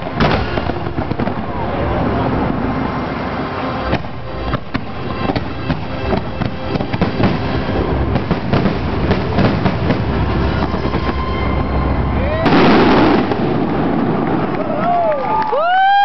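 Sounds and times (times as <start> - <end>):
steady low rumble: 0.0 - 15.1
fireworks bangs and crackling: 0.0 - 15.7.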